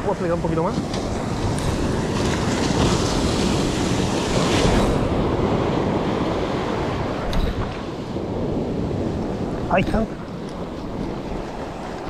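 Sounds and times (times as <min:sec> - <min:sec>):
ocean surf breaking on shore: 0:00.0 - 0:12.0
wind rumbling on microphone: 0:00.0 - 0:12.0.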